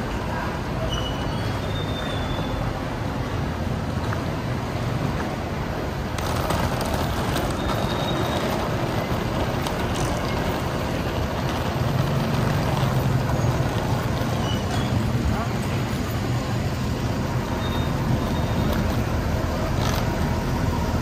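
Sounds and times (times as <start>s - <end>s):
vehicle engine rumbling: 2.4s - 21.0s
suitcase wheels rolling on concrete: 3.2s - 21.0s.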